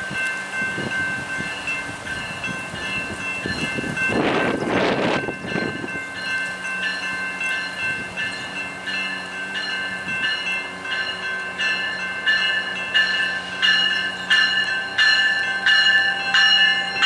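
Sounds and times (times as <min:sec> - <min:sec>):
railway warning bell ringing: 0:00.0 - 0:17.0
train humming: 0:00.0 - 0:17.0.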